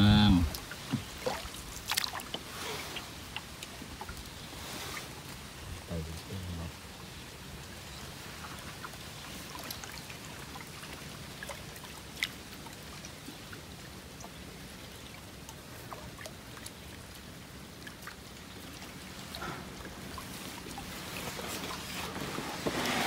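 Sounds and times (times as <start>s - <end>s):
light water splashes: 0.0s - 23.0s
water trickling and dripping: 0.0s - 23.0s.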